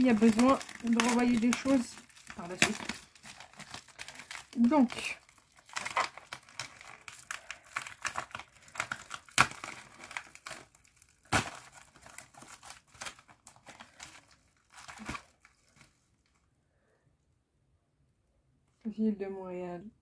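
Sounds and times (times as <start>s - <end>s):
sharp packaging crackles: 0.0s - 16.4s
packaging crinkling and rustling: 0.0s - 16.5s.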